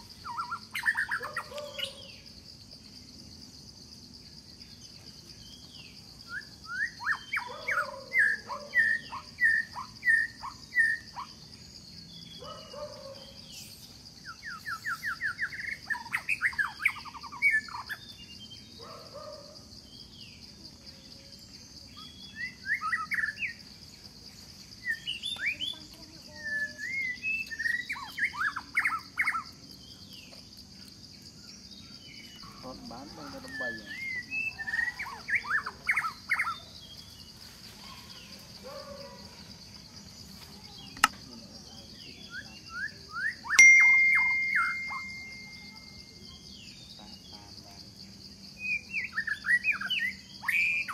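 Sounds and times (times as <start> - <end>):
birds chirping and trilling: 0.0 - 50.9
insects droning: 0.0 - 50.9.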